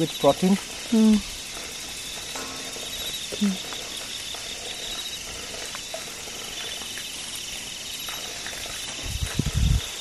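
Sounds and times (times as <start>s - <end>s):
crickets and insects trilling: 0.0s - 10.0s.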